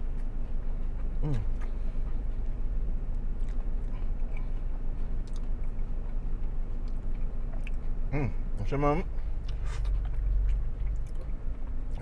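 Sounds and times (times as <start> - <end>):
chewing with faint crunches: 0.0 - 12.0.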